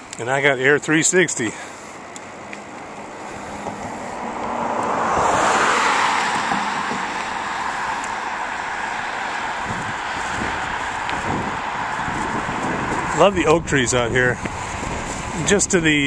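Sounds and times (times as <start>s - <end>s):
car passing: 0.0s - 16.0s
road and wind noise: 0.0s - 16.0s.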